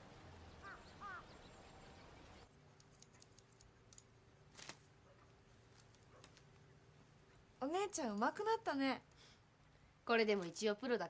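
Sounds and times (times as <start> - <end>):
quiet outdoor ambience: 0.0 - 11.0.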